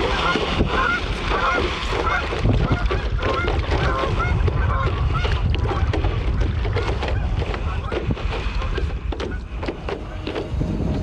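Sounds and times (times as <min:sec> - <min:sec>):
geese honking: 0:00.0 - 0:06.0, 0:07.0 - 0:10.9
wings flapping on water: 0:00.0 - 0:11.0.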